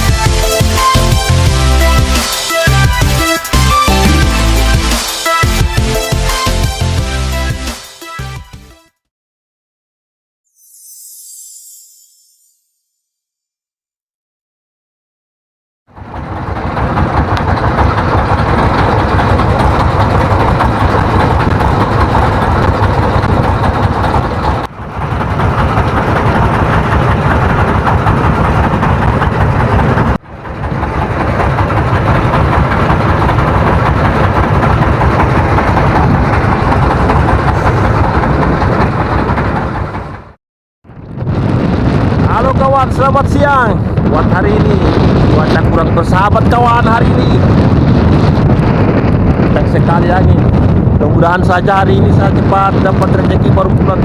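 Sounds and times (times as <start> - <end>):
boat engine running: 0.0 - 7.7, 15.9 - 40.4, 41.8 - 54.0.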